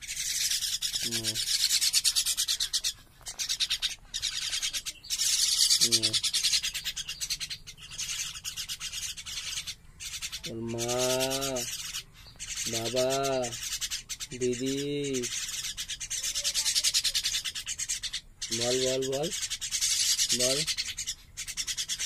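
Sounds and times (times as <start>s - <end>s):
young birds raspy begging calls: 0.0s - 22.0s.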